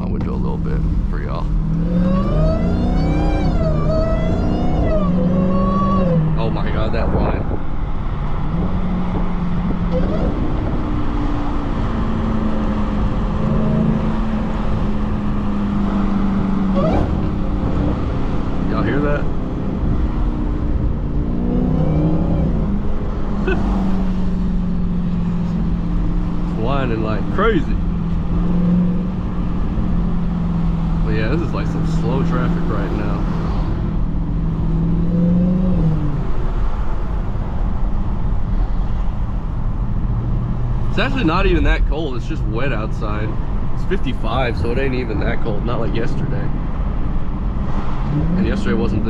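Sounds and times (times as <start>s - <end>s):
car engine running: 0.0s - 49.0s
road noise: 0.0s - 49.0s
supercharger whining: 0.0s - 49.0s.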